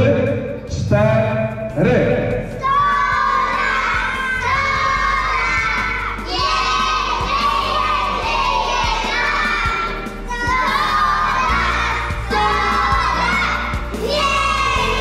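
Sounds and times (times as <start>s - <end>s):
backing track with steady beat: 0.0s - 15.0s
children singing together: 2.6s - 15.0s.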